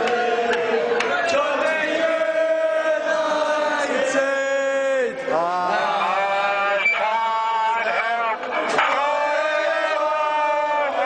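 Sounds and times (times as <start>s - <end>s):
crowd chanting: 0.0s - 11.0s.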